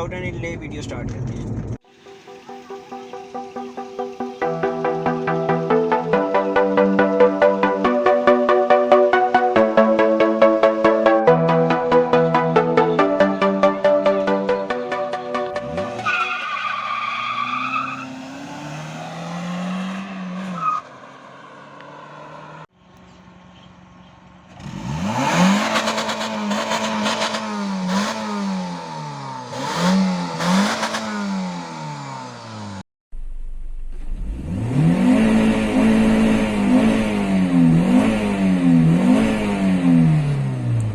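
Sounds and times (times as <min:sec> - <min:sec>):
car engine revving: 0:02.1 - 0:22.7, 0:24.5 - 0:40.9.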